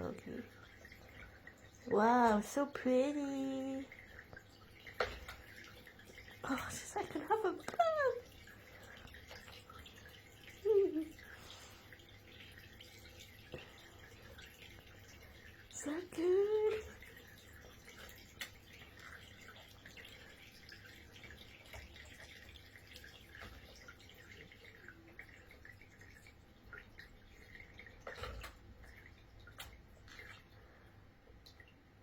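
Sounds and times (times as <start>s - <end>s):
water dripping and splashing: 0.0s - 32.0s.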